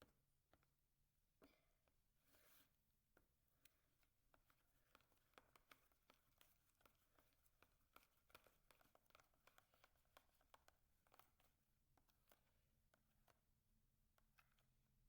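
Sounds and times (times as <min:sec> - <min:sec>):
faint clicks of slime being stirred: 0:02.6 - 0:15.0.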